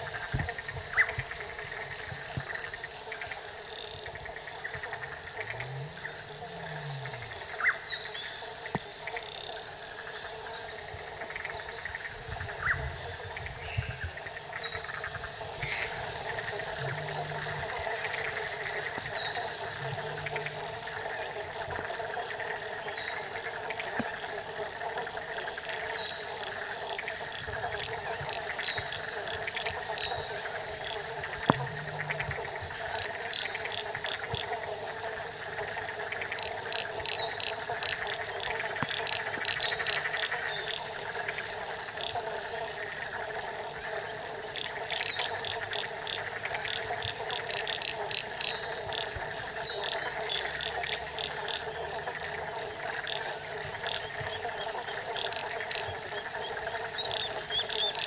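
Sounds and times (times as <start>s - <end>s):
frogs calling: 0.0s - 58.0s.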